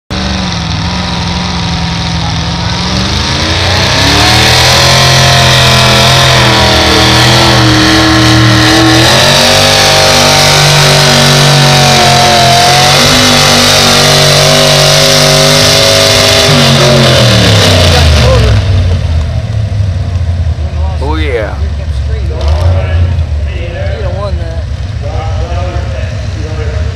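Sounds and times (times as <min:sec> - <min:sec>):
engine revving under heavy load: 0:00.1 - 0:26.9.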